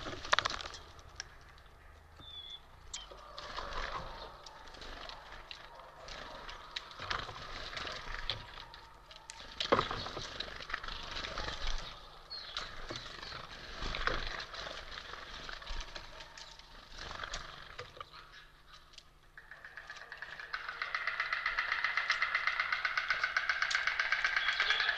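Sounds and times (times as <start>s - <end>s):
wings fluttering: 0.0s - 1.9s, 2.8s - 24.9s
birds pecking at seeds on wood: 0.0s - 24.9s.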